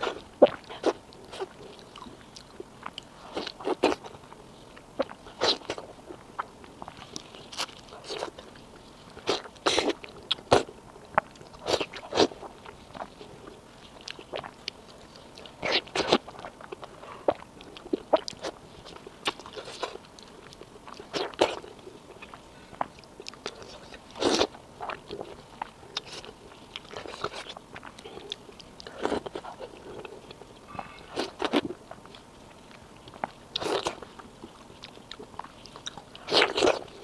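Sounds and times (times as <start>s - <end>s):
chewing crunchy food: 0.0s - 37.0s.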